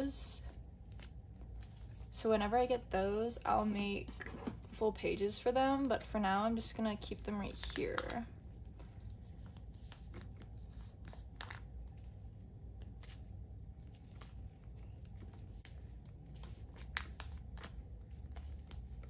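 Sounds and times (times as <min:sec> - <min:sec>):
plastic pages rustling: 0:00.8 - 0:02.9, 0:03.6 - 0:19.0.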